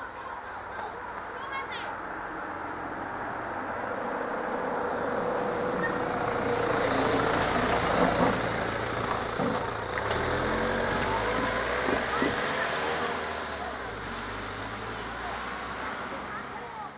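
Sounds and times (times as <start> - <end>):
van engine driving past: 2.0 - 16.9.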